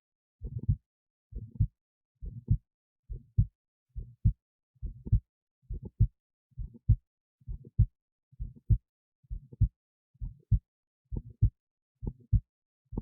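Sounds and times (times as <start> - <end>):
heartbeat lub-dub: 1.4 - 13.0.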